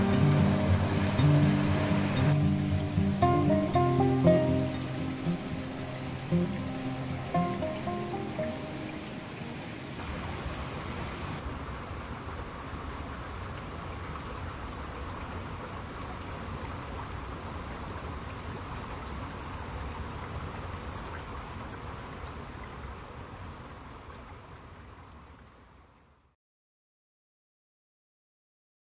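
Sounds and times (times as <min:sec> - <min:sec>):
stream water rushing and splashing: 0:00.0 - 0:26.2.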